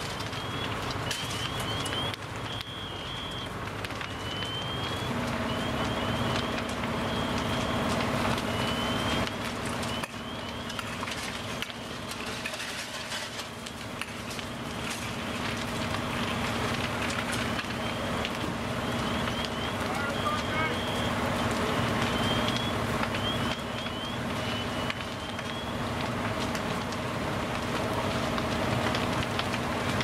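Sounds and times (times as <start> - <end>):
fire engine engine humming: 0.0 - 30.0
house fire crackling and popping: 0.0 - 30.0.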